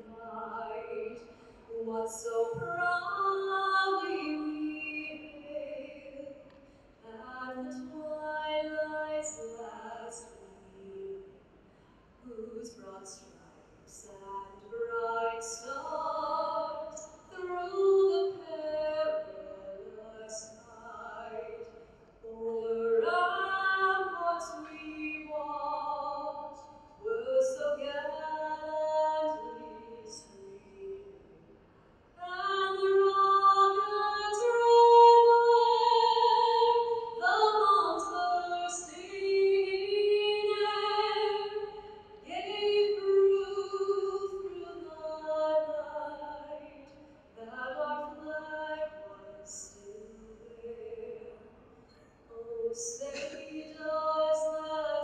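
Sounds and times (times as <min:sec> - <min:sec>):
woman singing unaccompanied: 0:00.0 - 0:06.4, 0:07.0 - 0:11.2, 0:12.2 - 0:31.1, 0:32.2 - 0:51.5, 0:52.3 - 0:55.0.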